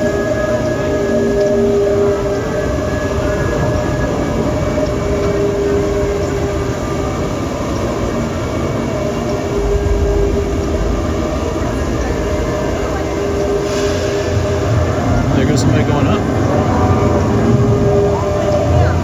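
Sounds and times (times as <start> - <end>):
roller coaster train rumbling on track: 0.0 - 19.0.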